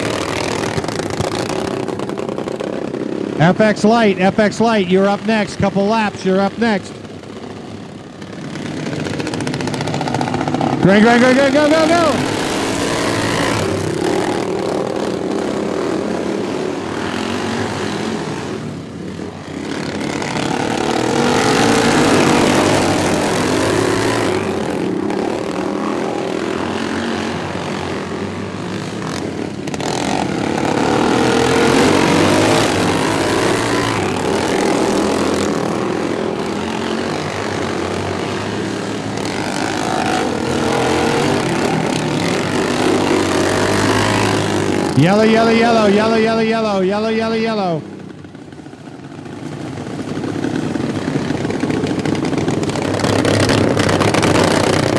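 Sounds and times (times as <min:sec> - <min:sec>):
racing lawn mower engines: 0:00.0 - 0:54.9.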